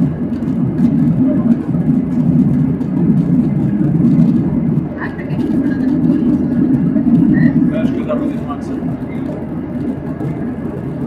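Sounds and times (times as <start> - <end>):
airplane cabin engine noise: 0.0 - 11.0.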